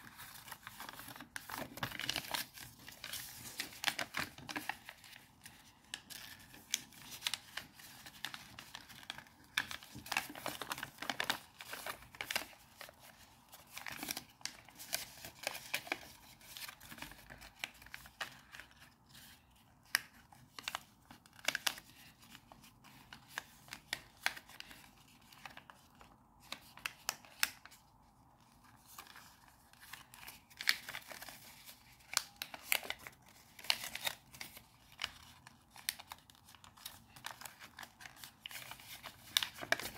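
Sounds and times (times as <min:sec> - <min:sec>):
paper crinkling and rustling: 0:00.0 - 0:39.9.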